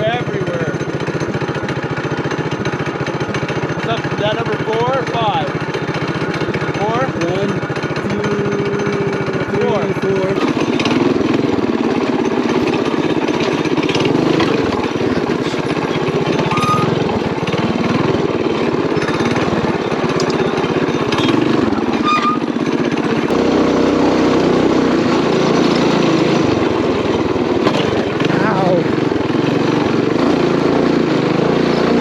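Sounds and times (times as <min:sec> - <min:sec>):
small motorbike engine running: 0:00.0 - 0:32.0.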